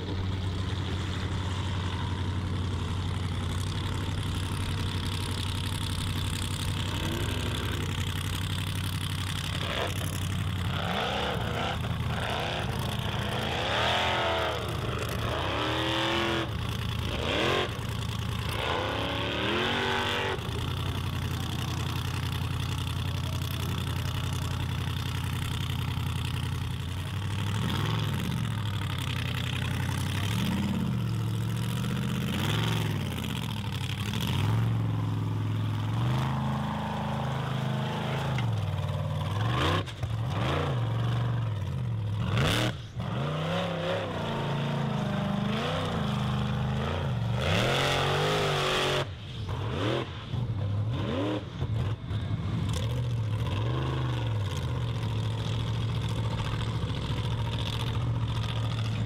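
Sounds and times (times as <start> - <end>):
buggy engines revving hard: 0.0 - 59.0.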